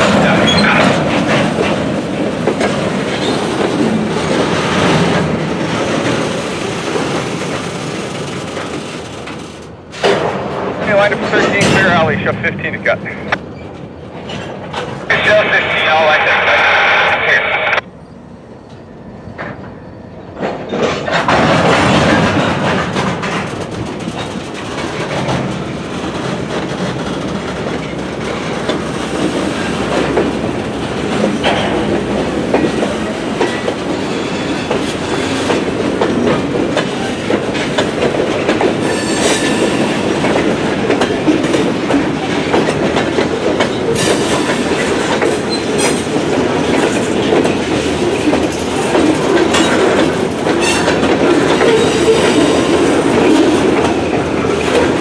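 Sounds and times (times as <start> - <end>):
freight train wheels clattering: 0.0 - 15.2, 18.7 - 55.0.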